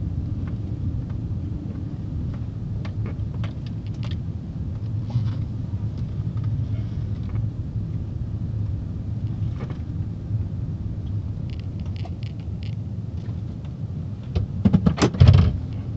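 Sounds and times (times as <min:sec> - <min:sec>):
car engine and road noise: 0:00.0 - 0:15.9.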